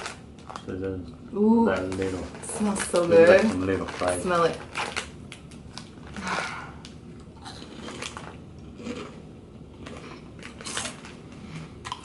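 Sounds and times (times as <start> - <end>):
potato chips crunching: 1.7 - 12.0.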